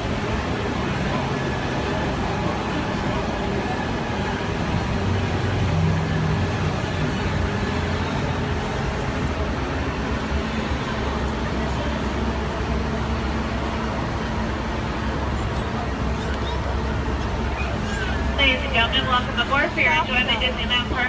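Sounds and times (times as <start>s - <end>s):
low engine drone: 0.0s - 21.0s
road and rolling noise: 0.0s - 21.0s.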